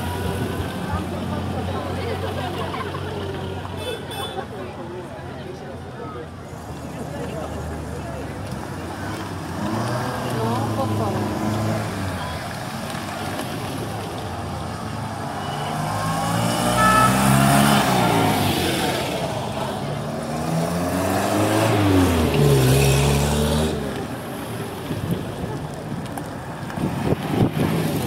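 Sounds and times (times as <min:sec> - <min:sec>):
vintage cars driving past: 0:00.0 - 0:28.0.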